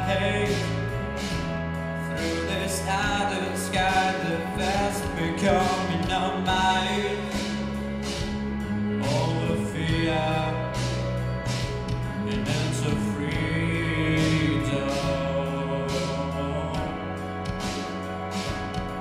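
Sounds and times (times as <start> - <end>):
backing music with bass and drums: 0.0 - 19.0.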